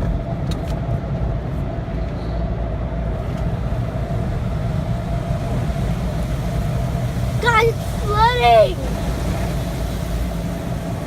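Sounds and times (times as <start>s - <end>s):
car wash machinery rumble: 0.0s - 11.0s
constant machine whine: 0.0s - 11.0s.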